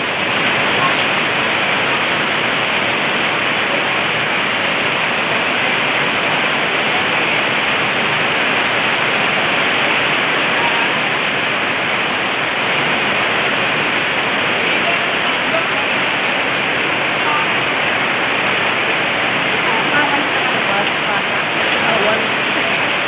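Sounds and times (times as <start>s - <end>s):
heavy rain downpour: 0.0s - 23.0s.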